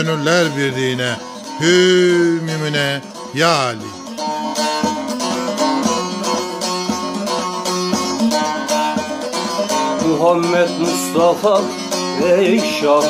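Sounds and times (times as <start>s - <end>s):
long-necked lute played with plectrum: 0.0s - 13.0s.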